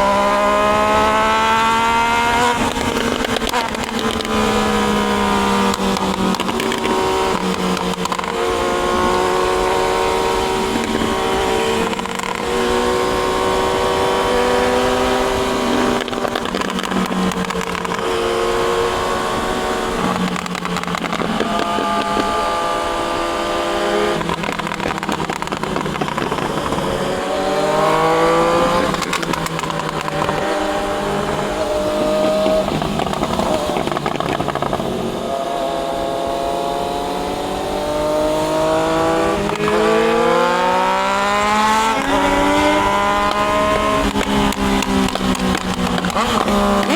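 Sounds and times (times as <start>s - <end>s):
motorcycle engine revving through gears: 0.0s - 46.9s.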